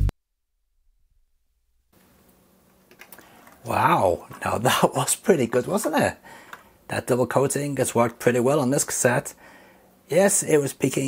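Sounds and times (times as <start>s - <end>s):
faint room hum: 1.8s - 11.0s.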